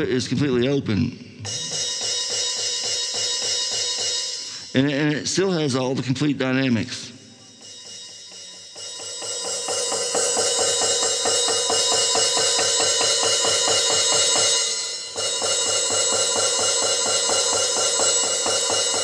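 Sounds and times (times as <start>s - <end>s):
stick striking electronic hi-hat pad: 1.2s - 5.7s, 7.1s - 19.0s.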